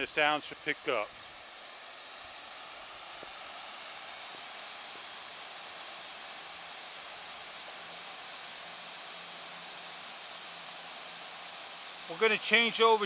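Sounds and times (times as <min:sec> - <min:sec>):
outdoor ambience hiss: 0:00.0 - 0:13.0.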